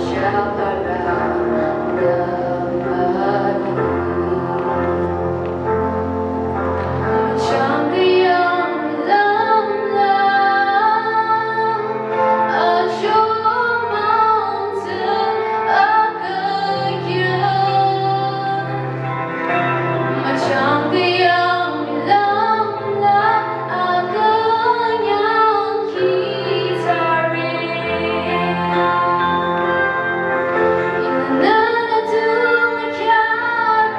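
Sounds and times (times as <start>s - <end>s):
woman singing into a microphone: 0.0s - 5.4s, 7.2s - 29.4s, 30.8s - 33.9s
long held accompaniment notes: 0.0s - 33.9s.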